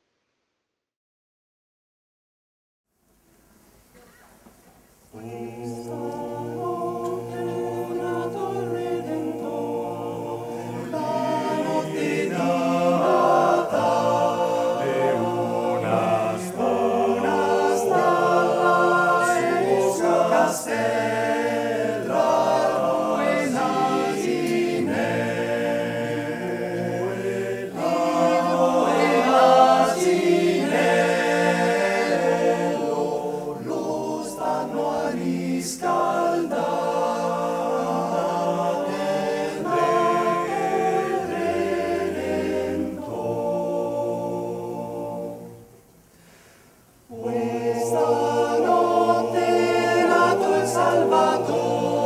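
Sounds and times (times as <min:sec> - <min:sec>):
male choir singing a cappella: 0:05.1 - 0:52.0.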